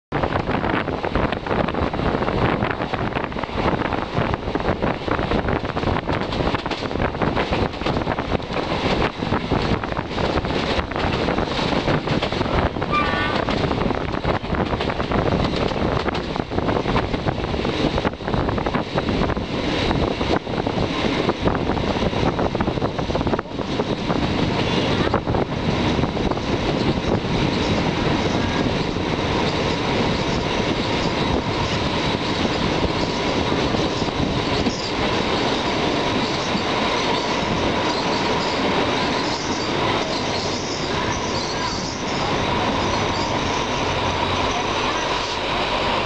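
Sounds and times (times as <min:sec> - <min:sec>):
train running noise: 0:00.1 - 0:46.0
wind buffeting microphone: 0:00.1 - 0:46.0.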